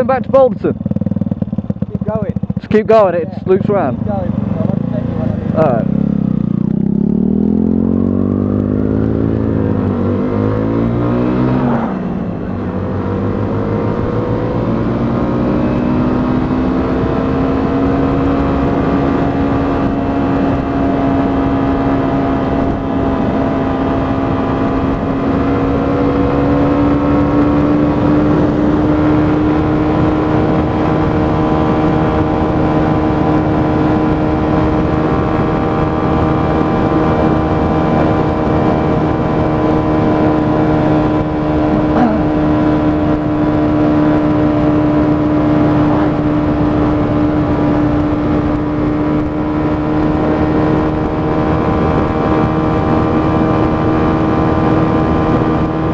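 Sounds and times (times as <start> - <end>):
motorcycle engine accelerating: 0.0 - 55.9
wind and road noise: 0.0 - 55.9.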